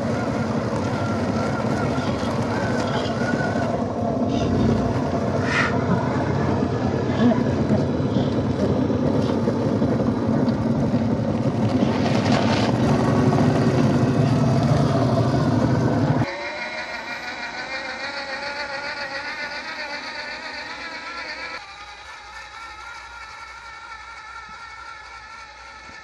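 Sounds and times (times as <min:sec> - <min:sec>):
rc car motor whirring: 0:00.0 - 0:26.0.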